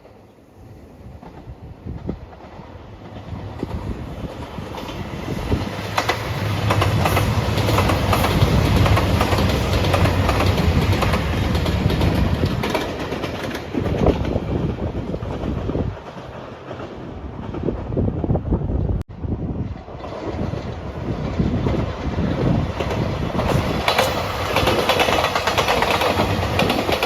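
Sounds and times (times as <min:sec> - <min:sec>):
diesel train passing: 0:00.0 - 0:27.0
wheels clicking over rail joints: 0:01.2 - 0:18.0, 0:19.8 - 0:27.0.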